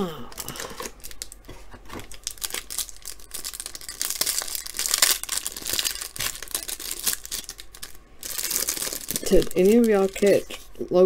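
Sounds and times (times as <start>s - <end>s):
plastic wrapper crinkling and tearing: 0.3s - 10.8s.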